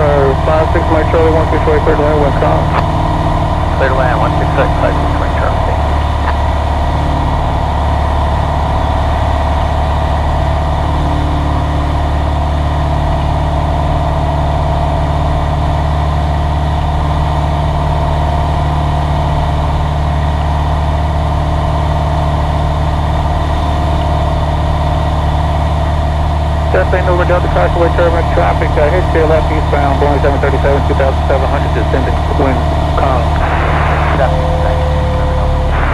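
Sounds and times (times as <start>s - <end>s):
propeller plane engine droning: 0.0s - 35.9s.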